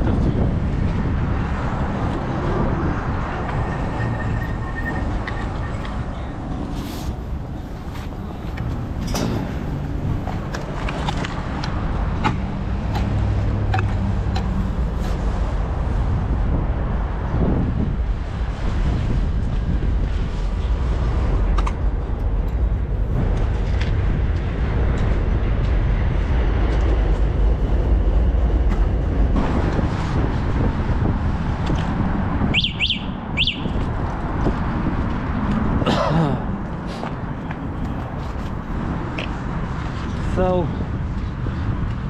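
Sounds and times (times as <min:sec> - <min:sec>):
passing street traffic: 0:00.0 - 0:42.0
wind on microphone: 0:00.0 - 0:42.0.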